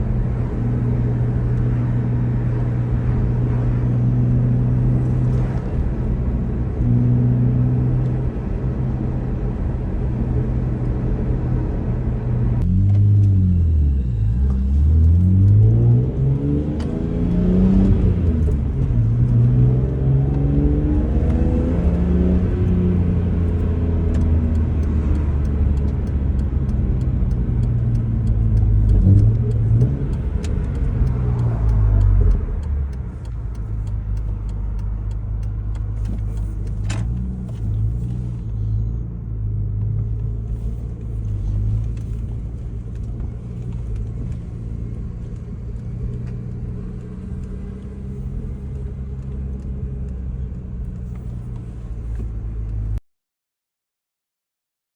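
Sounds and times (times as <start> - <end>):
car engine and exhaust revving: 0.0 - 53.0.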